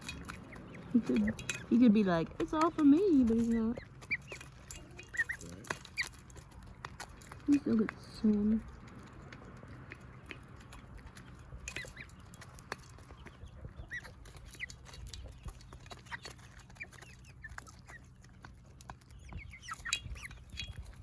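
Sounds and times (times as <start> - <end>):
birds pecking at food: 0.0 - 21.0
chickens chirping: 0.0 - 21.0.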